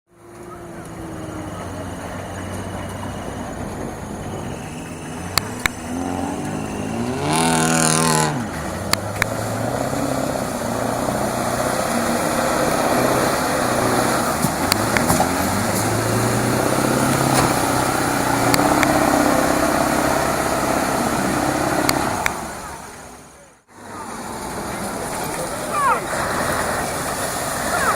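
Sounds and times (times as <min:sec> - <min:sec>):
diesel truck engine revving: 0:00.1 - 0:27.9.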